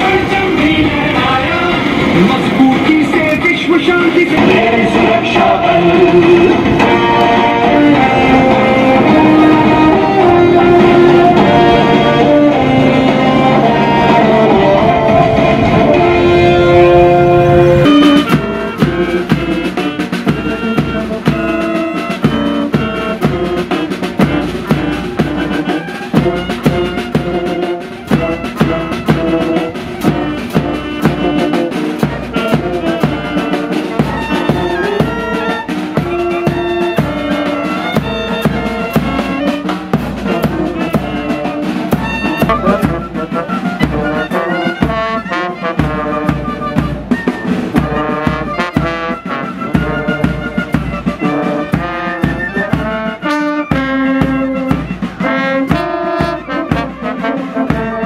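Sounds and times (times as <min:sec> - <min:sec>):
brass band playing: 0:00.0 - 0:58.0
bass drum and snare beat: 0:02.2 - 0:12.4, 0:17.7 - 0:58.0.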